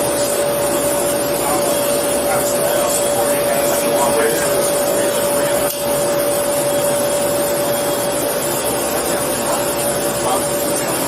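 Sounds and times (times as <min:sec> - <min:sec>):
constant high whine: 0:00.0 - 0:11.0
machine hum and hiss: 0:00.0 - 0:11.0.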